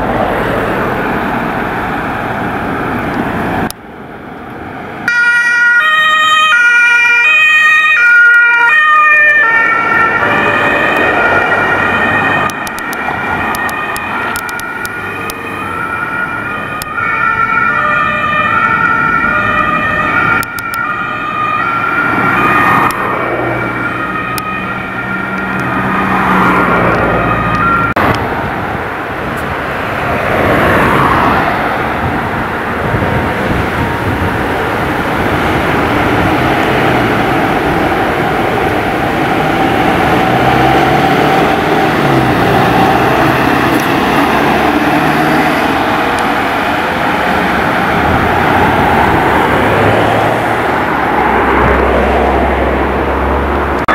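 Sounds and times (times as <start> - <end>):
engine and traffic noise: 0.0 - 53.9
two-tone emergency sirens: 5.0 - 28.2, 30.2 - 53.9.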